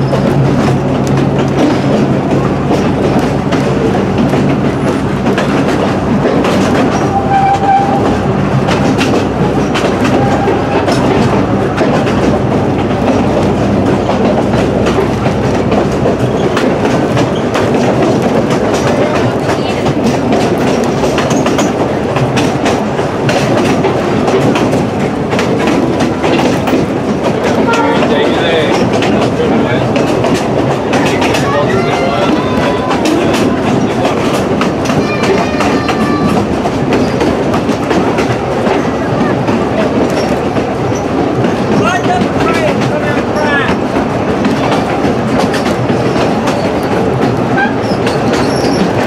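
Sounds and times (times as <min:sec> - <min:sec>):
train wheels rumbling on rails: 0:00.0 - 0:49.0
wheels clicking over rail joints: 0:00.0 - 0:49.0.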